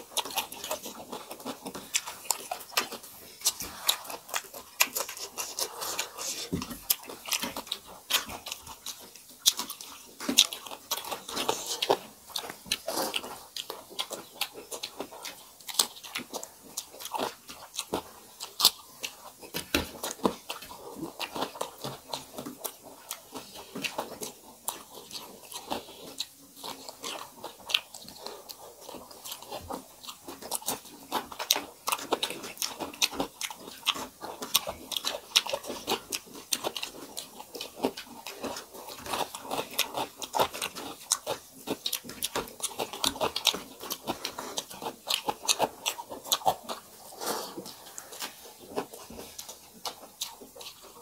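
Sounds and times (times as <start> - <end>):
chewing and crunching bites: 0.0 - 51.0.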